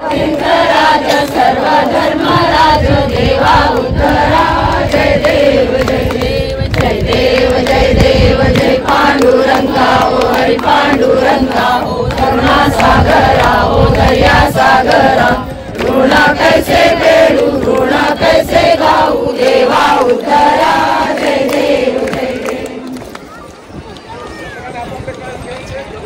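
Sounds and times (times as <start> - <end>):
crowd singing devotional chant: 0.0 - 23.2.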